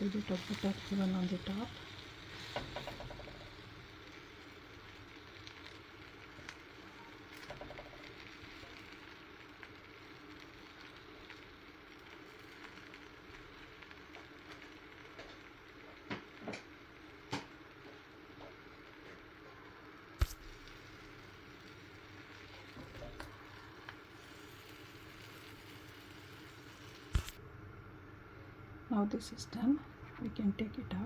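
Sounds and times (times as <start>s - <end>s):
butter sizzling in pan: 0.0s - 27.8s.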